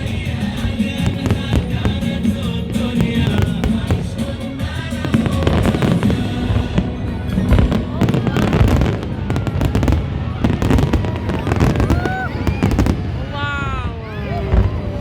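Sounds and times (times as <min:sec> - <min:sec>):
music: 0:00.0 - 0:13.0
fireworks bangs and crackles: 0:00.0 - 0:13.7, 0:14.3 - 0:15.0
voices: 0:00.0 - 0:15.0.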